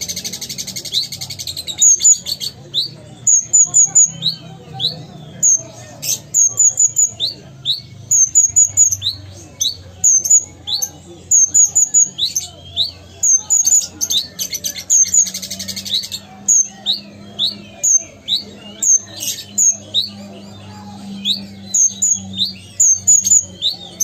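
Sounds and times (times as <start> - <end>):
bird chirping and trilling: 0.0 - 24.0.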